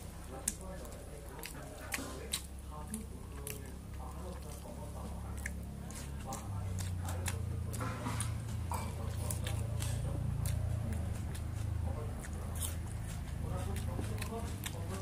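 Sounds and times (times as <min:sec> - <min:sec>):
fingers squishing food on a plate: 0:00.0 - 0:15.0
steady low hum: 0:00.0 - 0:15.0.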